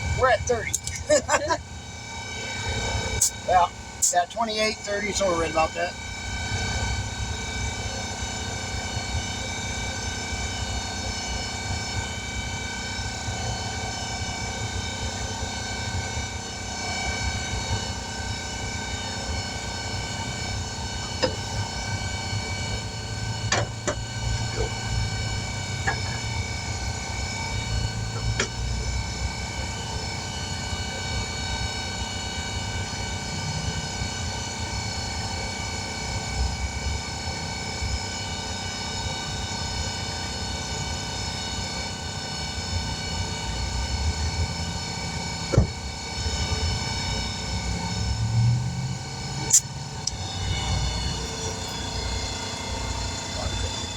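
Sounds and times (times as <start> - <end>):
machine whining and rumbling: 0.0 - 53.9.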